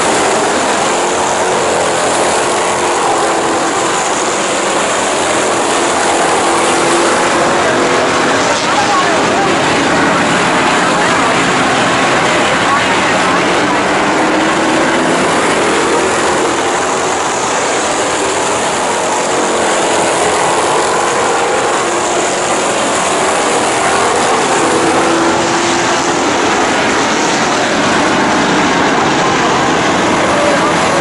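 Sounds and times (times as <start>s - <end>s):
race car engines roaring: 0.0s - 31.0s.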